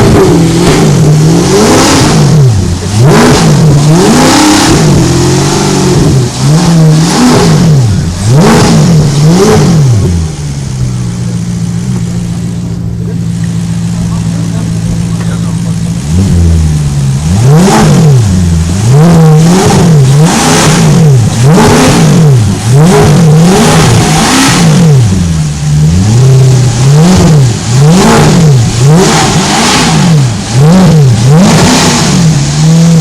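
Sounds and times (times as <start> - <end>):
car engine revving in blips: 0.0 - 33.0.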